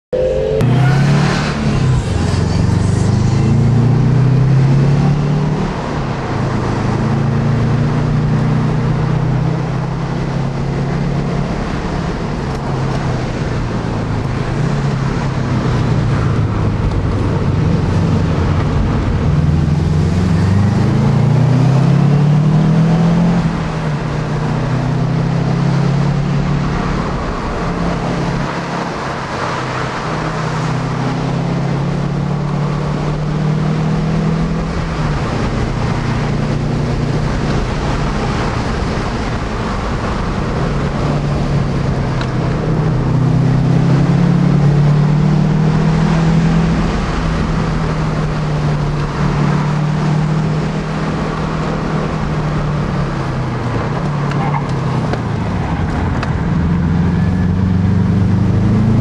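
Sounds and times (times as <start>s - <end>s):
car engine revving: 0.1s - 59.0s
road noise: 0.1s - 59.0s.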